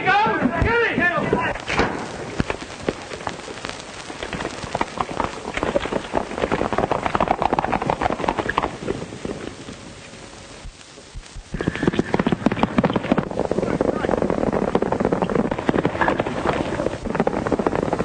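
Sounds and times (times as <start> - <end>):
horses galloping: 0.0 - 18.0.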